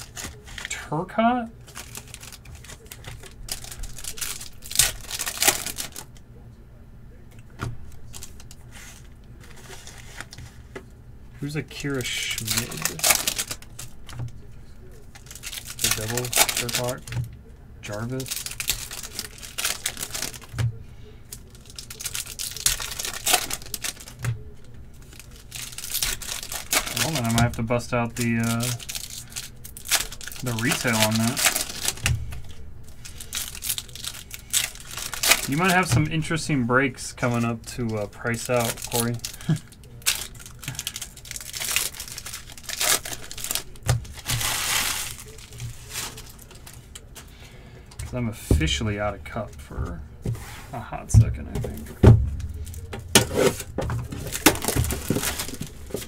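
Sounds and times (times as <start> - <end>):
foil wrapper crinkling: 0.0 - 0.9, 1.6 - 6.2, 7.9 - 10.7, 11.4 - 50.0, 51.6 - 56.0.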